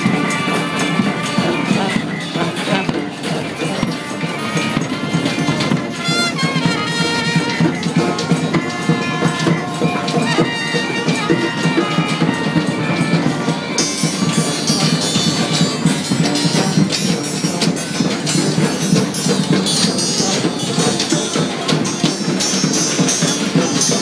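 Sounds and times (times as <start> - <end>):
brass band playing: 0.0 - 24.0
drum beat: 0.0 - 24.0.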